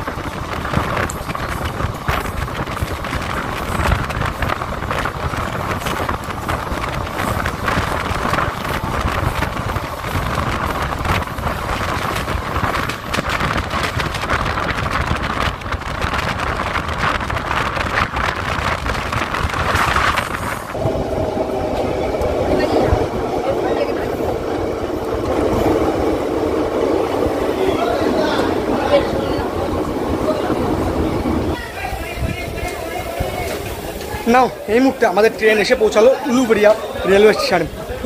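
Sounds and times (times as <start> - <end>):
wind buffeting microphone: 0.0 - 34.7
train carriage rumble: 0.0 - 38.0.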